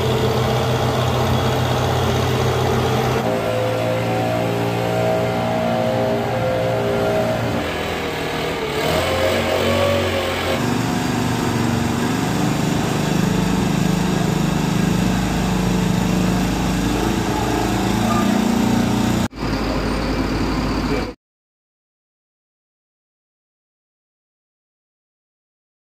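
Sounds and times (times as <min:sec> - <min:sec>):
small engines running: 0:00.0 - 0:21.2.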